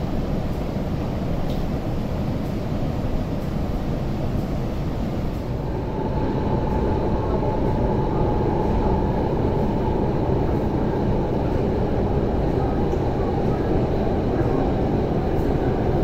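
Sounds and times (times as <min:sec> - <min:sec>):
train rumbling in a tunnel: 0:00.0 - 0:16.0.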